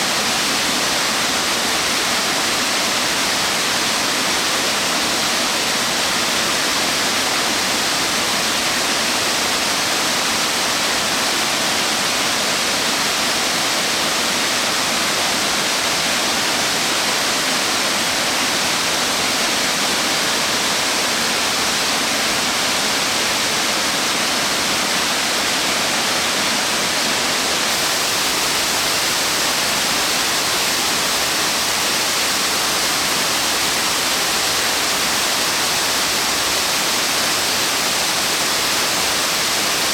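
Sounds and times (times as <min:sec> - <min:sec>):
large waterfall roaring: 0:00.0 - 0:39.9.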